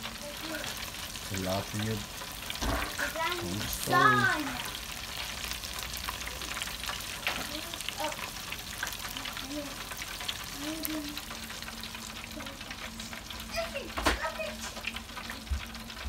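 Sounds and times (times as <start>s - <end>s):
fish deep-frying in oil: 0.0s - 16.0s.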